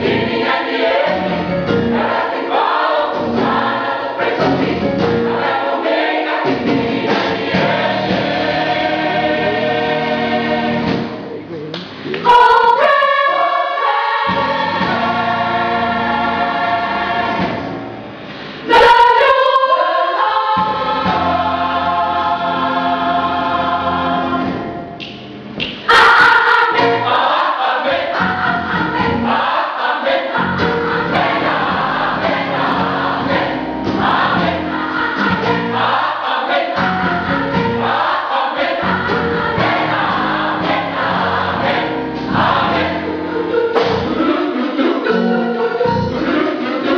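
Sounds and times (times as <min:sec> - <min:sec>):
gospel choir singing: 0:00.0 - 0:25.0, 0:25.8 - 0:46.9.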